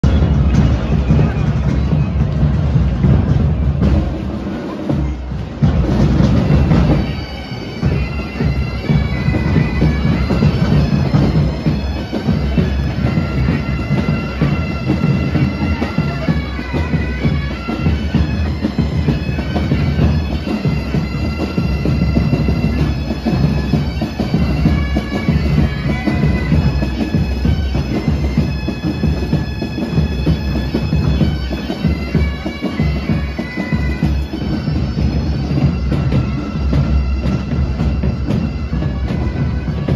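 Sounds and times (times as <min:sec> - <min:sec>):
pipe band playing bagpipes: 0:00.0 - 0:39.9.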